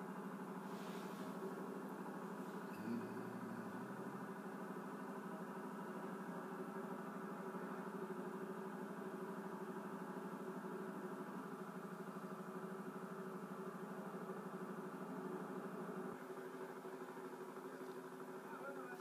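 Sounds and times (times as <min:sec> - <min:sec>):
engine running through speaker: 0:00.0 - 0:19.0.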